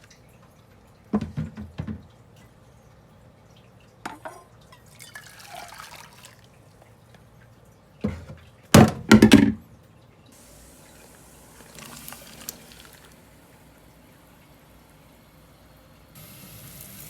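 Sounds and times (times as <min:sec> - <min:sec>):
water splashing and dripping: 0:00.0 - 0:17.0.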